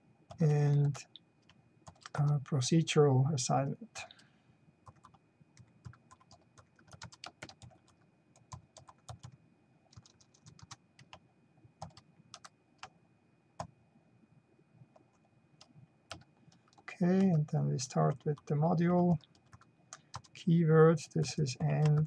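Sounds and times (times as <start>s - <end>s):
faint typing on keyboard: 0.3s - 2.7s, 3.9s - 13.0s, 13.6s - 13.8s, 14.8s - 22.0s.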